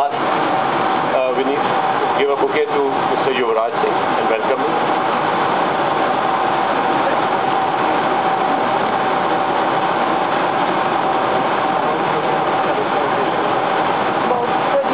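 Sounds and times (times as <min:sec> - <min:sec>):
loud machine noise with high hum: 0:00.0 - 0:14.9.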